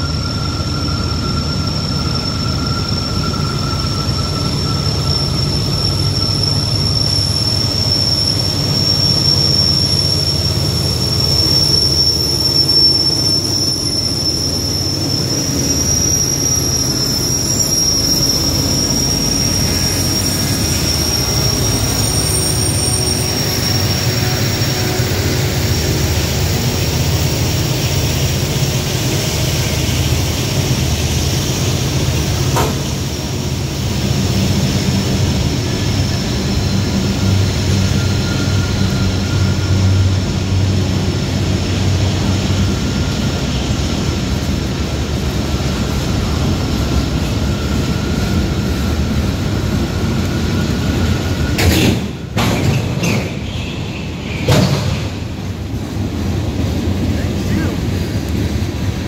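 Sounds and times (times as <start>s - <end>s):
wheel flanges squealing: 0.0s - 55.7s
train wheels rumbling on rail: 0.0s - 59.0s.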